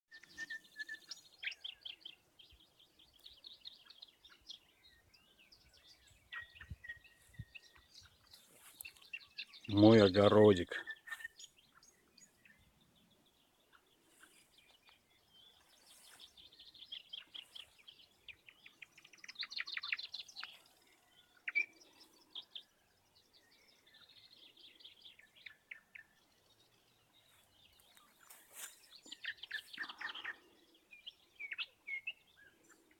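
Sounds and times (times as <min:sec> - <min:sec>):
songbirds chirping and trilling: 0:00.1 - 0:32.9.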